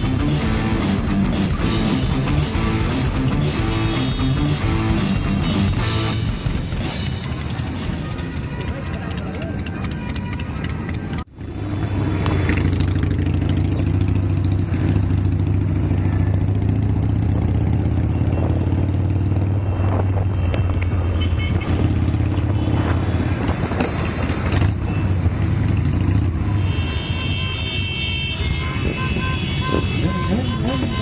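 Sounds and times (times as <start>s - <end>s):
motorcycle engine running: 0.0s - 27.3s, 28.1s - 31.0s
other motorcycles riding: 0.0s - 31.0s.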